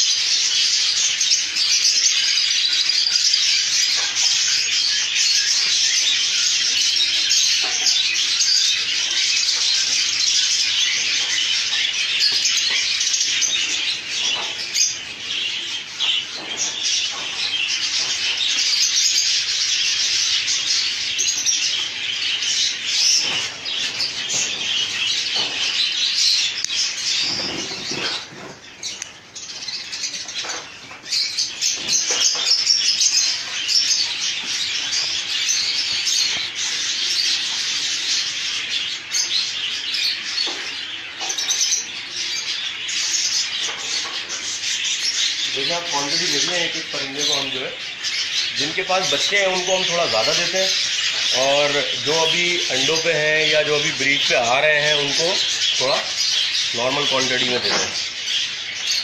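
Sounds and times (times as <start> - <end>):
budgerigars chattering and chirping: 0.0 - 59.0.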